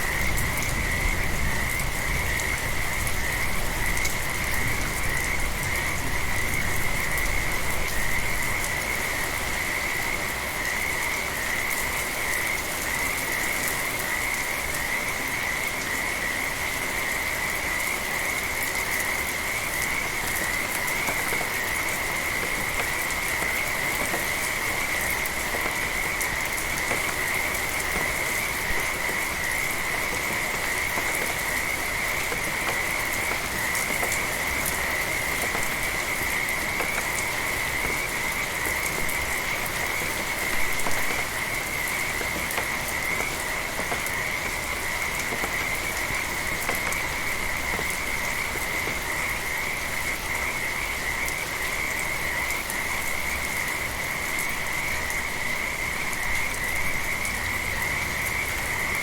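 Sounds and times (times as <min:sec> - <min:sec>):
rain pattering: 0:00.0 - 0:59.0
frogs trilling: 0:08.7 - 0:59.0.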